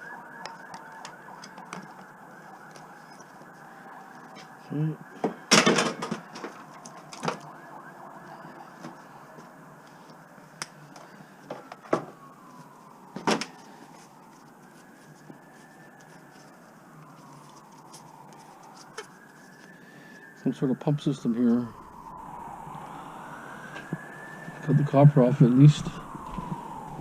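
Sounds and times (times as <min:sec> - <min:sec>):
emergency vehicle siren wailing: 0:00.0 - 0:27.0.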